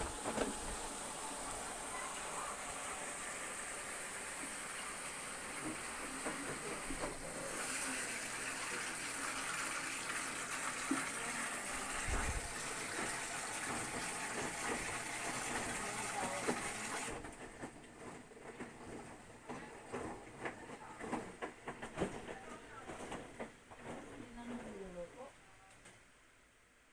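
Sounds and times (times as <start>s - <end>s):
water hissing into washing machine: 0.0s - 22.1s.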